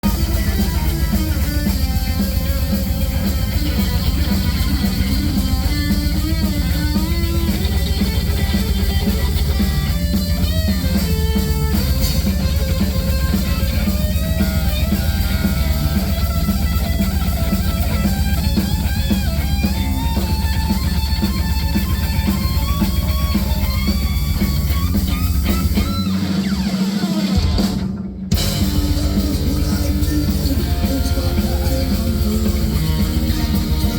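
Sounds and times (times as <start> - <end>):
heavy metal band playing live: 0.0 - 33.9.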